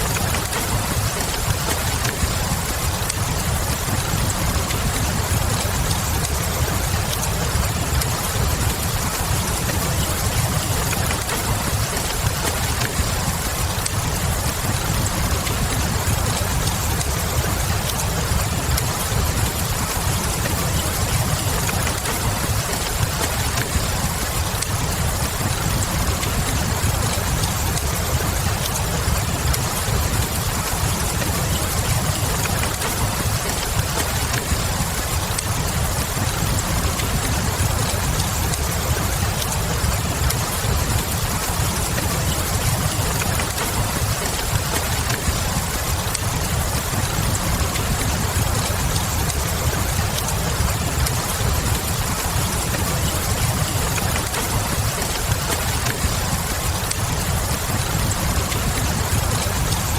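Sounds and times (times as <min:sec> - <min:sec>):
log fire crackling: 0:00.0 - 0:59.9
steady rain: 0:00.0 - 0:59.9.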